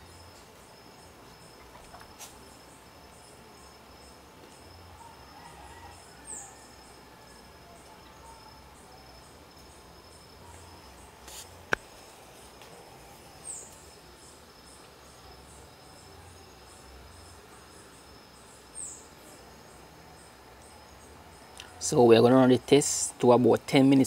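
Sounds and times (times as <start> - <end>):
faint high whine: 0.0 - 24.0
insects chirping: 0.0 - 24.0.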